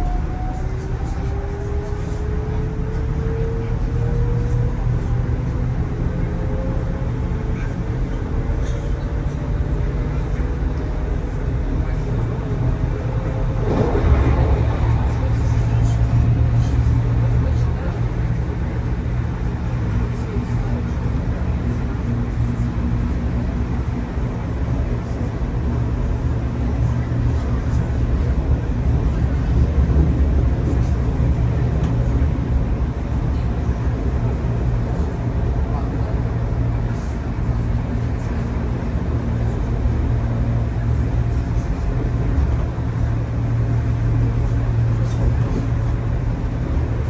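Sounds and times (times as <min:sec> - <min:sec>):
low hum: 0:00.0 - 0:47.0
train rumble: 0:00.0 - 0:47.0.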